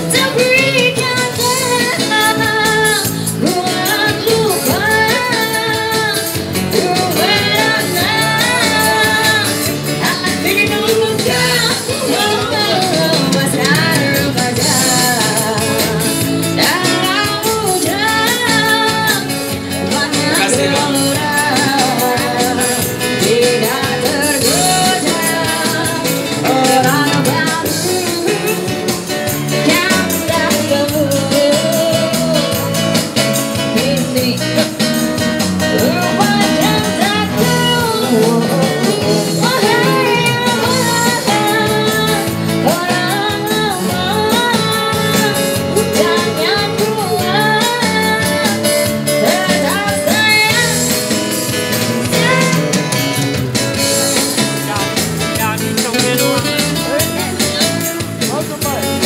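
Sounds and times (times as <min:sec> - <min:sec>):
people singing: 0:00.0 - 0:32.7, 0:35.6 - 0:51.0
acoustic guitar: 0:00.0 - 0:59.0
bass guitar: 0:00.0 - 0:59.0.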